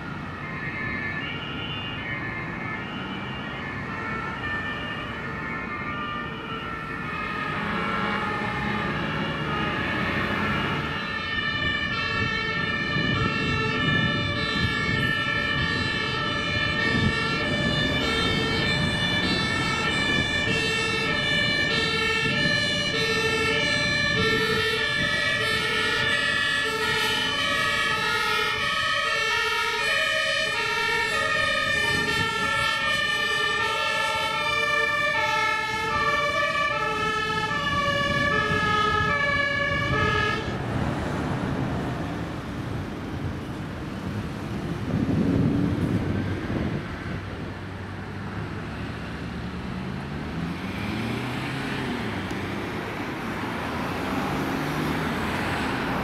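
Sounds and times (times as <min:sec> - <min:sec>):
truck engines and tyre noise: 0:00.0 - 0:56.0
two-tone emergency sirens: 0:00.0 - 0:56.0.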